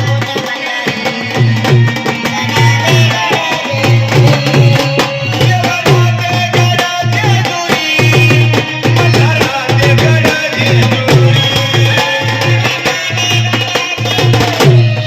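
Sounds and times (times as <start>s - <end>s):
hand drum rhythm: 0.0s - 15.0s.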